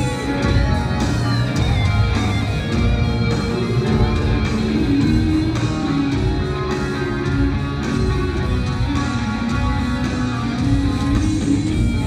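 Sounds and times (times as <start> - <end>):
electric guitars ringing: 0.0 - 12.0
heavy metal band playing live: 0.0 - 12.0.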